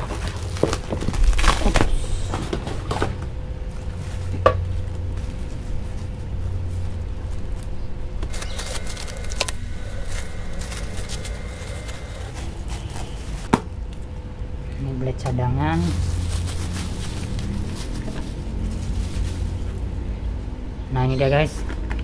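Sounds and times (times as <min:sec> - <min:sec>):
plastic wrap crinkling: 0:00.0 - 0:14.0, 0:15.8 - 0:20.0
steady low hum: 0:00.0 - 0:22.0.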